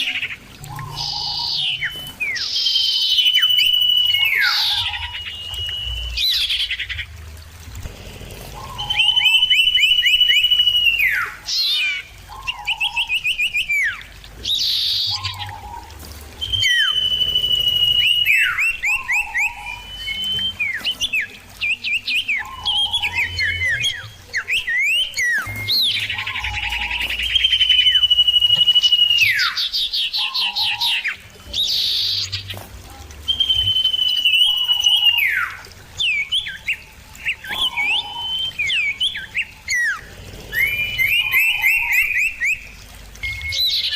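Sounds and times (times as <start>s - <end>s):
bird whistling and trilling: 0.0s - 7.0s, 8.6s - 32.5s, 33.2s - 40.0s, 40.6s - 43.9s.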